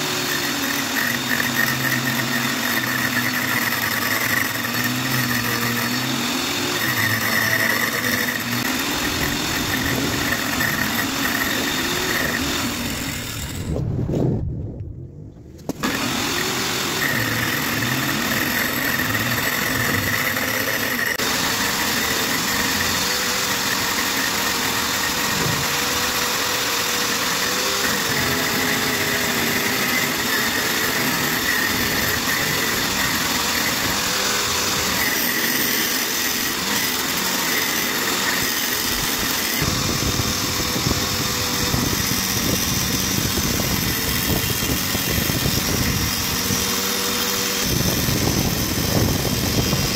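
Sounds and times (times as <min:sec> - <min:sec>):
electric motor lathe whining: 0:00.0 - 0:13.9, 0:15.7 - 0:49.9.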